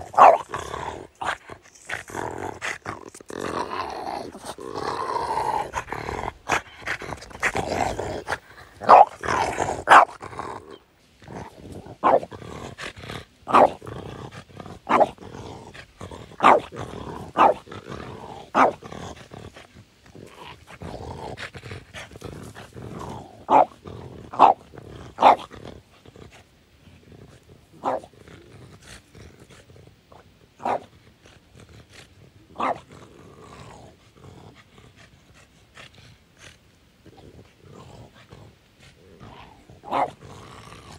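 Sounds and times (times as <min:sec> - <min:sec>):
dog growling: 0:00.0 - 0:40.9.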